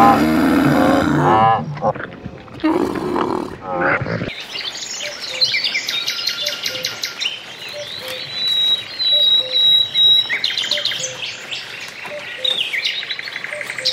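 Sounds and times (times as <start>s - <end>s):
small birds chirping and trilling: 0.0s - 13.9s.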